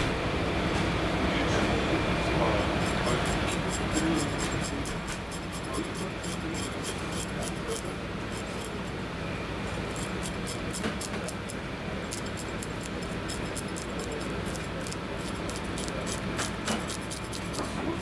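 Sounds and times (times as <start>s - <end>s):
steady low hum: 0.0s - 18.0s
knife scraping fish scales: 2.8s - 9.0s, 9.7s - 18.0s.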